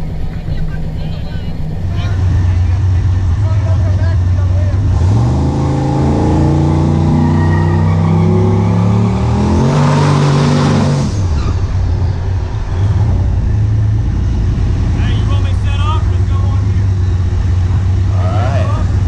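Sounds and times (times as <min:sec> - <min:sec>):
drag racing engine accelerating: 0:00.0 - 0:19.0.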